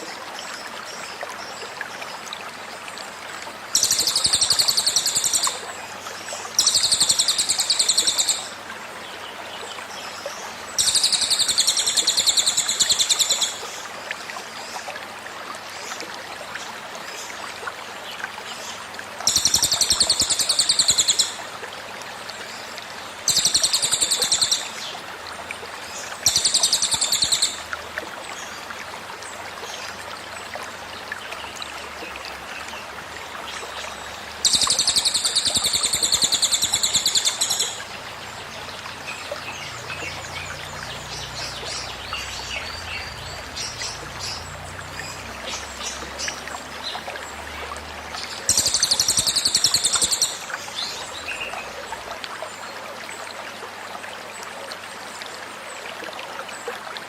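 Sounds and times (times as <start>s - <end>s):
stream trickling: 0.0s - 57.0s.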